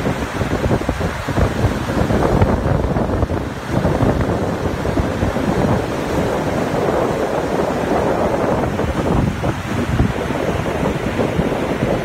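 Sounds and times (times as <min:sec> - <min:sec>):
churning water rushing: 0:00.0 - 0:12.0
wind buffeting microphone: 0:00.0 - 0:12.0.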